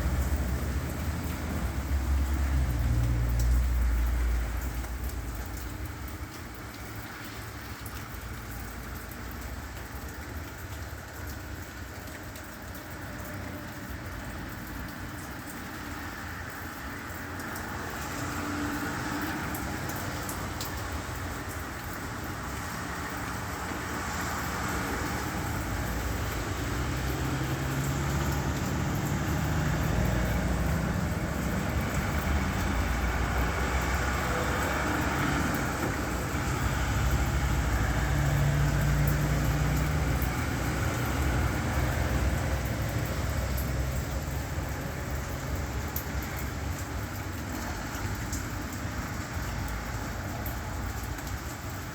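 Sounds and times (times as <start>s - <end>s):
rain hissing on wet road: 0.0s - 51.9s
vehicle engines humming: 0.0s - 51.9s.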